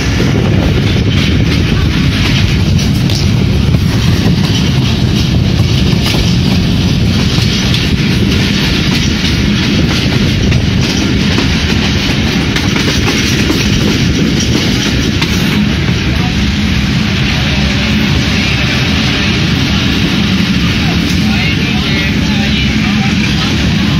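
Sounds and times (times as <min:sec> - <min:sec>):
clickety-clack of rail joints: 0:00.0 - 0:23.9
train wheels rumbling on track: 0:00.0 - 0:23.9.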